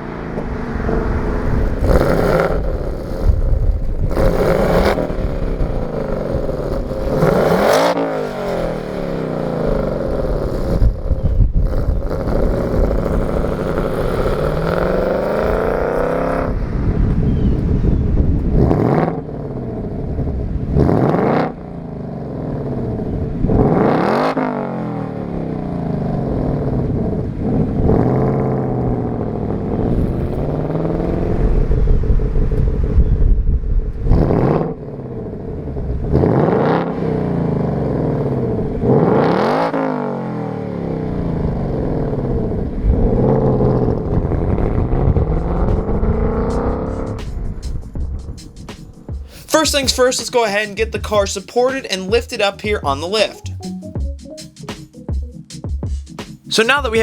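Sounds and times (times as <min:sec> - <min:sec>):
car engine revving: 0:00.0 - 0:17.8, 0:18.4 - 0:32.6, 0:34.0 - 0:47.6.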